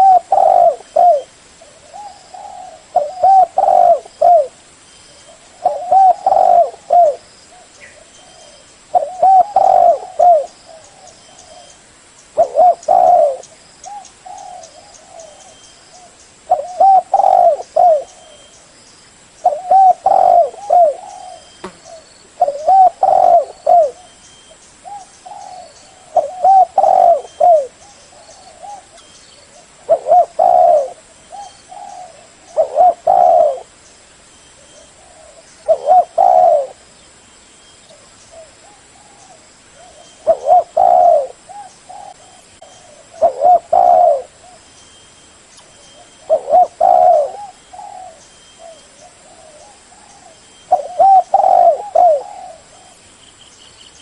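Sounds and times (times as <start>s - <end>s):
dove cooing: 0.0s - 4.6s, 5.2s - 11.8s, 12.4s - 18.5s, 19.4s - 24.2s, 24.8s - 33.8s, 34.6s - 36.9s, 37.9s - 44.7s, 45.8s - 53.0s.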